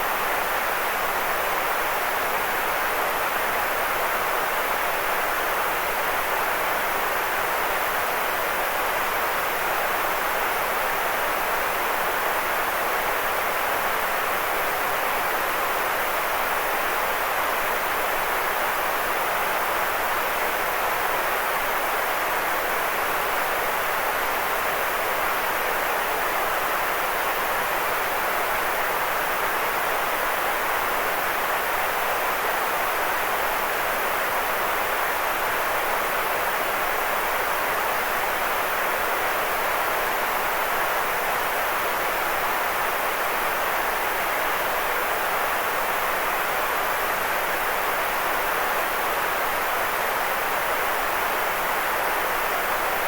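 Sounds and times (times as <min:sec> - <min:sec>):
steady white noise hiss: 0:00.0 - 0:53.0.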